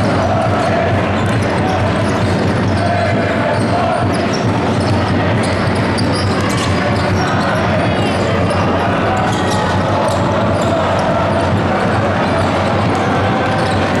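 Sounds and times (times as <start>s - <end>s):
basketball bouncing on court: 0.0s - 14.0s
large crowd noise: 0.0s - 14.0s.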